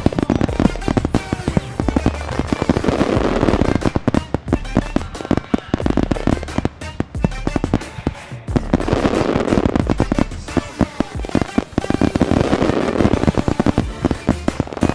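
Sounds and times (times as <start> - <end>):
fireworks bangs and crackles: 0.0 - 14.9
music playing: 0.0 - 14.9.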